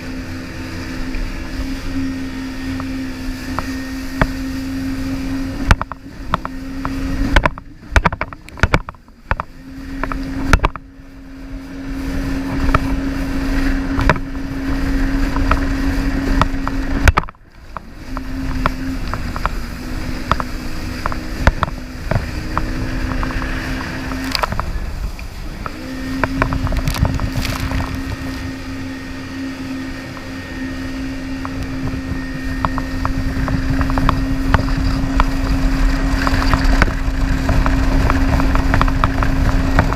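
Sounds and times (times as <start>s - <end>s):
water splashes and knocks: 0.0s - 11.0s, 11.8s - 30.4s, 31.3s - 39.9s
jet ski engine droning: 0.0s - 39.9s
wind on microphone: 0.0s - 39.9s.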